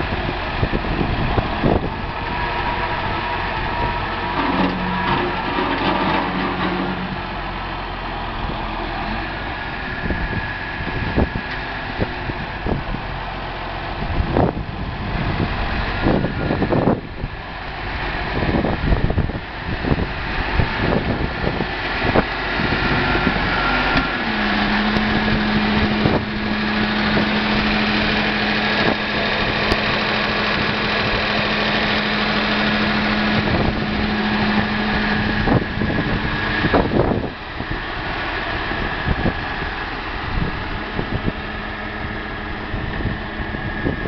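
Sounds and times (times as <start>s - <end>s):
tractor diesel engine idling: 0.0s - 44.0s.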